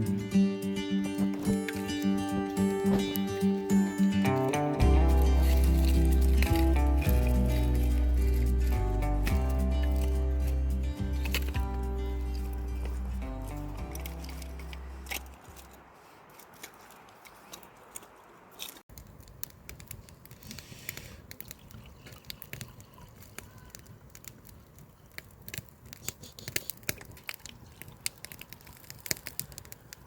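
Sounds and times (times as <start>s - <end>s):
faint clicks and crackles: 1.2s - 30.0s.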